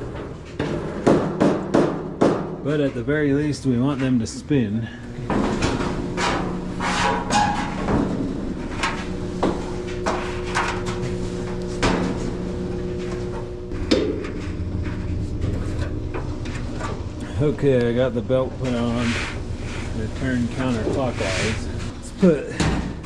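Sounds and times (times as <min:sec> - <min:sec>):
dryer parts knocking and clattering: 0:00.0 - 0:04.3, 0:05.2 - 0:23.0
steady low hum: 0:00.0 - 0:23.0.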